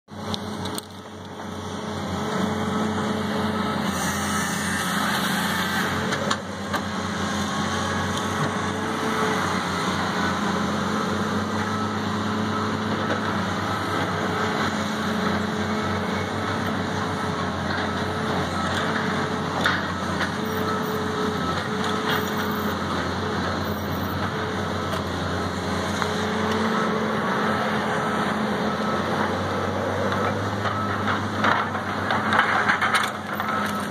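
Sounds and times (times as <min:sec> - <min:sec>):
diesel engines running: 0:00.1 - 0:33.9.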